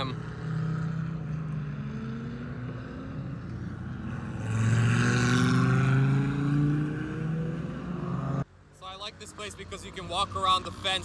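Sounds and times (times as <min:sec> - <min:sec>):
sports car engine passing: 0:00.0 - 0:11.0.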